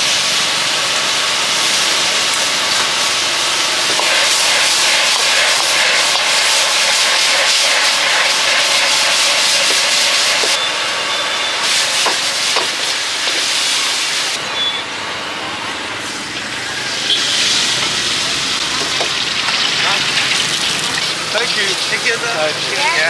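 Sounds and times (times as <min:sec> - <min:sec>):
food sizzling in a wok: 0:00.0 - 0:14.4, 0:16.0 - 0:23.0.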